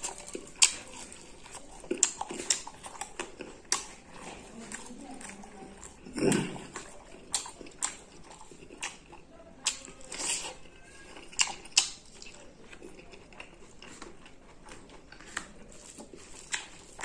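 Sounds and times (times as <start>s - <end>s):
crisp cucumber crunches: 0.0s - 17.0s
soft chewing: 0.0s - 17.0s.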